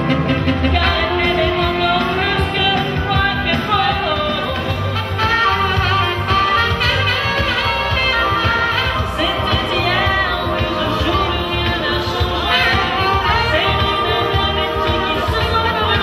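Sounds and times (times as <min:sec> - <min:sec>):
electronic keyboard: 0:00.0 - 0:16.0
saxophone: 0:00.0 - 0:16.0
woman singing into microphone: 0:00.0 - 0:16.0.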